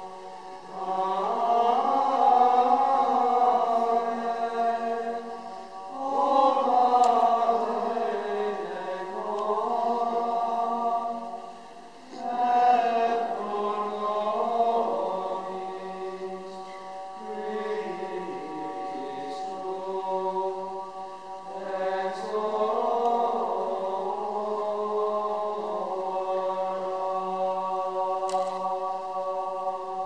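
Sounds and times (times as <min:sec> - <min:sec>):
men's choir chanting: 0:00.0 - 0:30.0.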